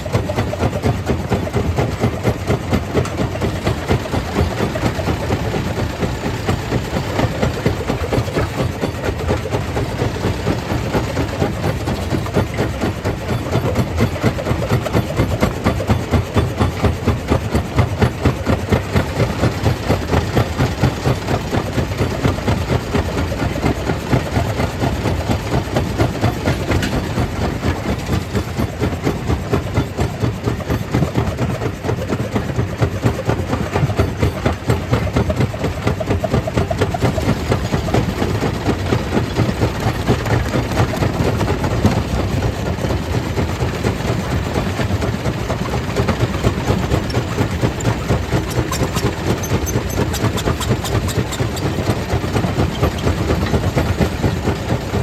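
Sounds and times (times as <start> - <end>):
stone crusher machinery drone: 0.0 - 55.0.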